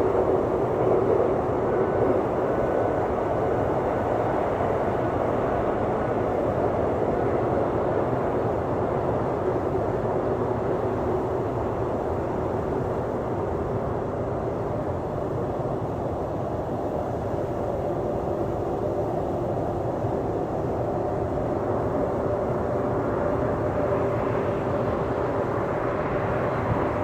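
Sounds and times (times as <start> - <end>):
jet engines droning: 0.0 - 27.0.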